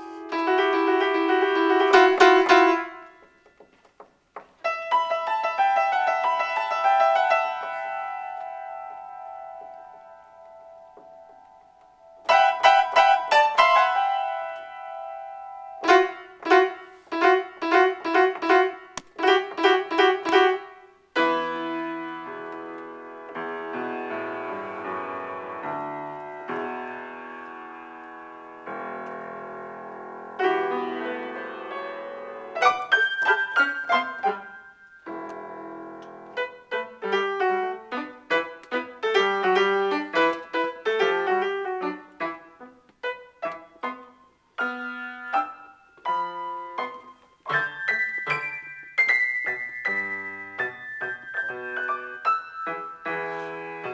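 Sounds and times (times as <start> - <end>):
solo piano: 0.0 - 53.9.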